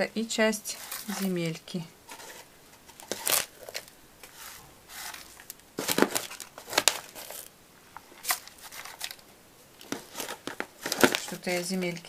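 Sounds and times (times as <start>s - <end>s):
plastic bag crinkling: 0.7s - 12.0s.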